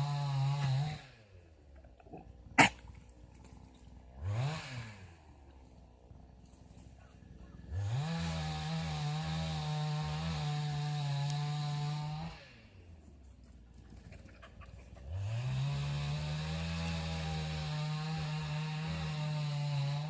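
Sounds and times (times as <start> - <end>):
small engine revving: 0.0 - 12.9, 13.7 - 20.0.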